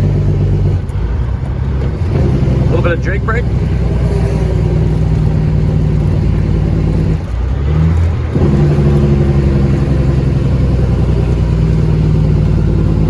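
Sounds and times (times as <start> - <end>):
truck engine brake pulsing: 0.0 - 13.0.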